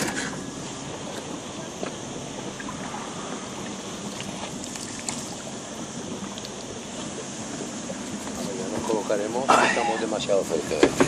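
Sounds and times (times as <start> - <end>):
sea water washing: 0.0 - 11.0.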